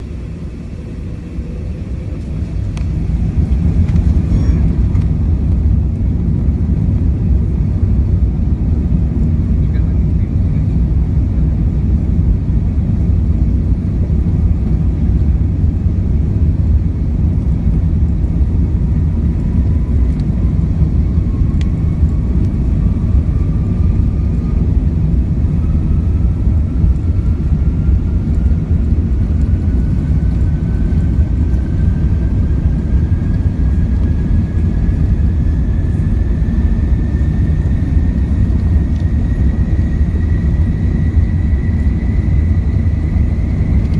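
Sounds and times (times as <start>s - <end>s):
jet airliner rumble: 0.0s - 43.9s
jet engine whine rising: 0.0s - 43.9s.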